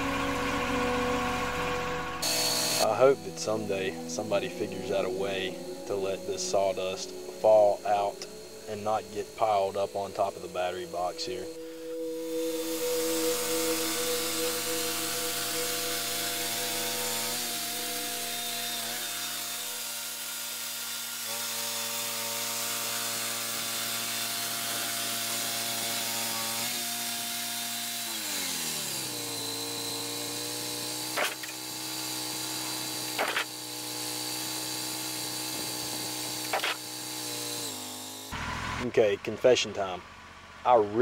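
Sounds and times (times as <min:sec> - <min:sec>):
sawmill engine humming: 0:00.0 - 0:41.0
saw blade hissing through wood: 0:02.2 - 0:38.4.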